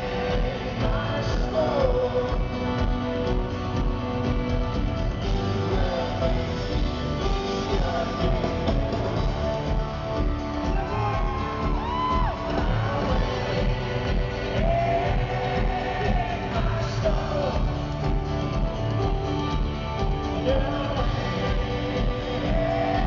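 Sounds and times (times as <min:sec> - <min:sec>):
electric guitar: 0:00.0 - 0:23.0.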